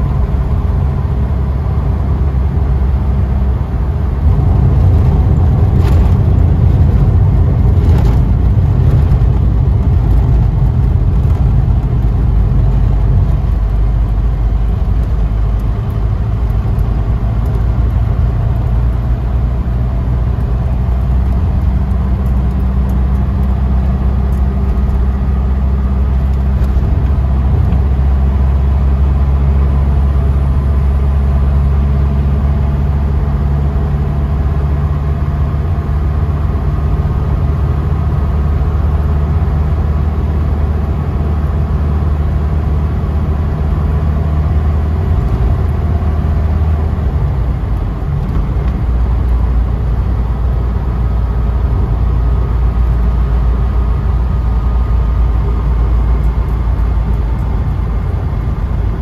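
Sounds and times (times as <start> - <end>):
car engine drone: 0.0 - 59.0
road and wind noise: 0.0 - 59.0.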